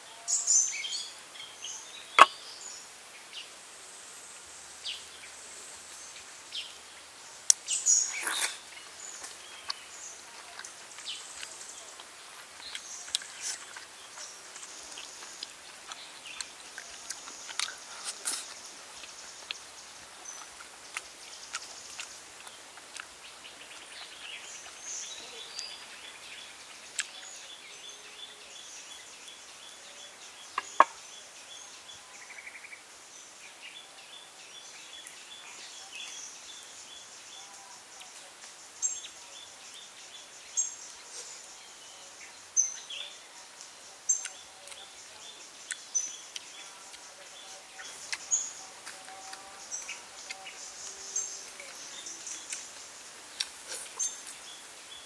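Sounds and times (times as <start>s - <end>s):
insects chirping: 0.3s - 55.0s.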